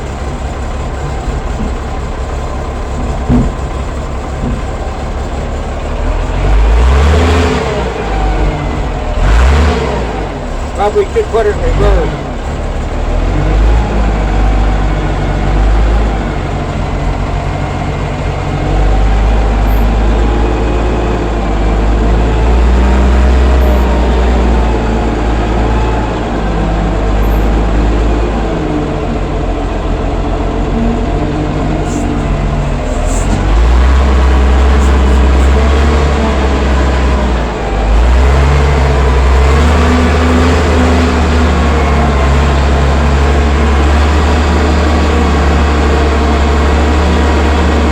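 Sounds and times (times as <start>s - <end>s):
wheel loader engine under load: 0.0s - 47.9s.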